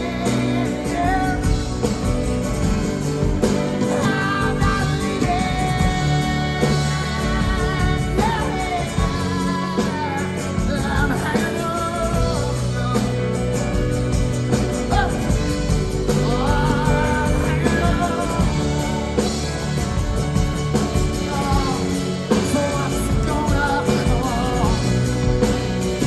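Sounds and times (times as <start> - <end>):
person singing: 0.0 - 2.0, 3.8 - 26.0
guitars: 0.0 - 26.0
live band playing folk-rock: 0.0 - 26.0.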